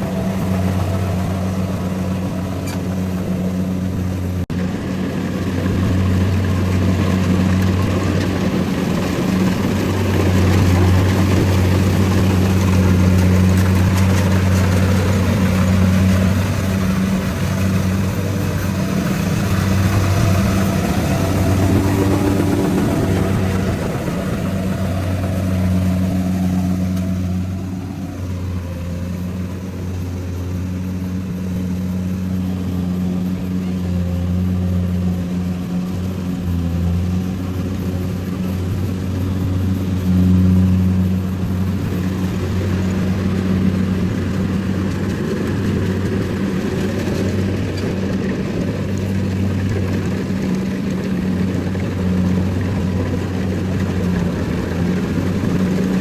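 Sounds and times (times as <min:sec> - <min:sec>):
harvester engine humming: 0:00.0 - 0:56.0.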